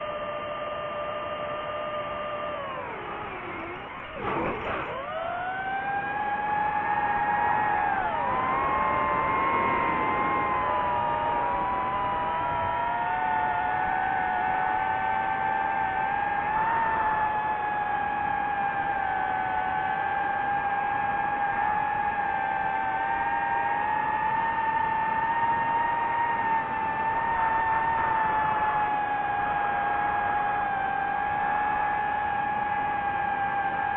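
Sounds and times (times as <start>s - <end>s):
drone propellers whining: 0.0s - 33.9s.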